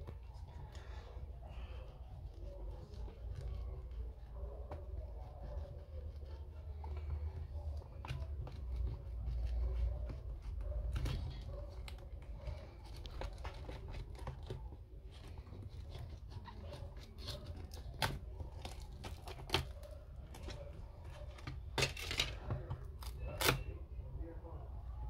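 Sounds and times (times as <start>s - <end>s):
small clicks and scraping: 0.0s - 23.7s.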